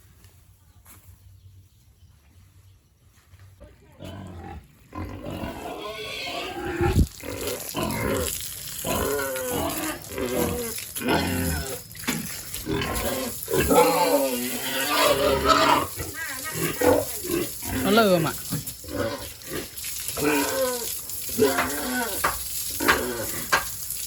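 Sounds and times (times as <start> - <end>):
pigs squealing: 4.0 - 23.6.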